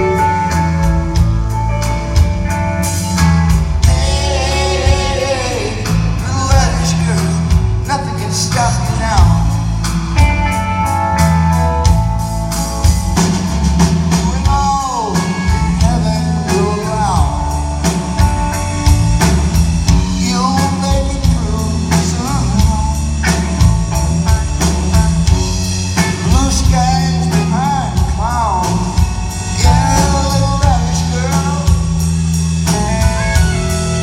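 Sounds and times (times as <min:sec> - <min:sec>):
bass guitar: 0:00.0 - 0:34.0
electric guitar lead lines: 0:00.0 - 0:34.0
steady drum beat: 0:00.0 - 0:34.0.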